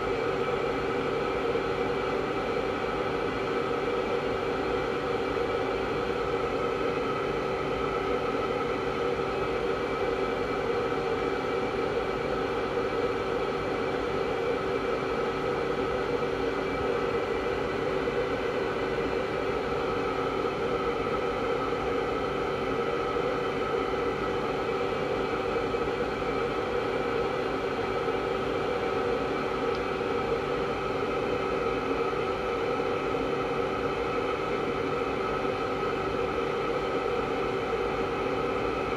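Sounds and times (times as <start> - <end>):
constant hum: 0.0 - 38.9.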